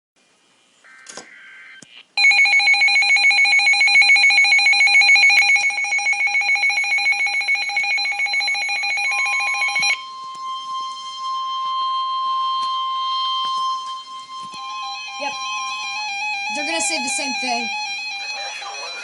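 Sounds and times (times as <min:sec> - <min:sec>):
alarm trill of high tones: 0:00.9 - 0:19.0
steady high warning tone: 0:00.9 - 0:19.0.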